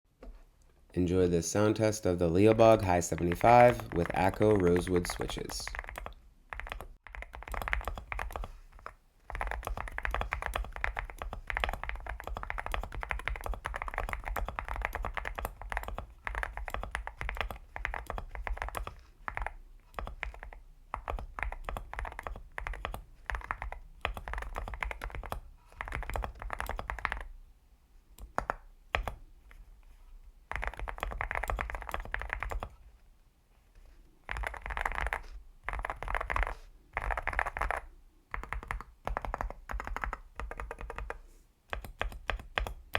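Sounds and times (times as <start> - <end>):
typing on mechanical keyboard: 2.5 - 27.4, 28.2 - 29.2, 30.5 - 32.8, 34.2 - 42.9.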